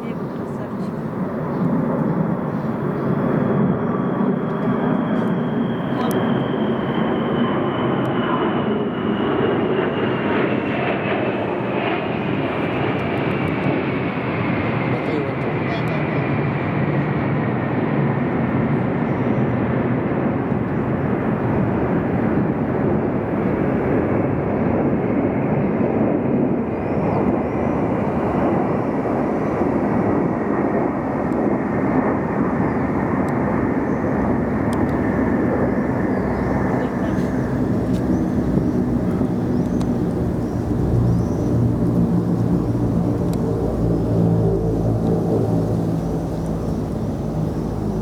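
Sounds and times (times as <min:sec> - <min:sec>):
military aircraft flying overhead: 0:00.0 - 0:48.0.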